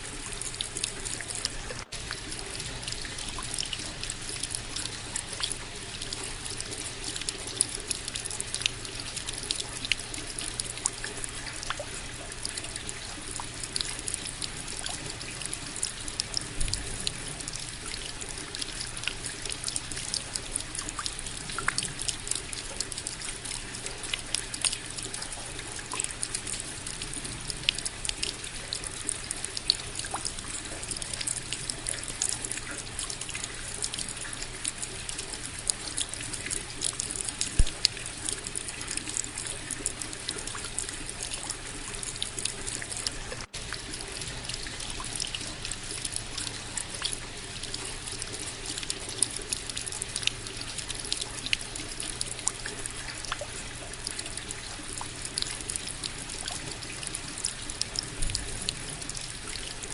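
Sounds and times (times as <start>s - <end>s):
raindrops ticking close by: 0.0s - 59.9s
steady rain: 0.0s - 59.9s.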